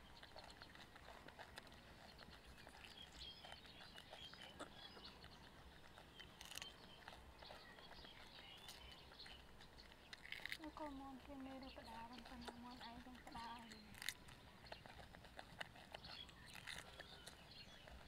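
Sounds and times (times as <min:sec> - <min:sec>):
monkeys chewing cucumber: 0:00.0 - 0:18.0.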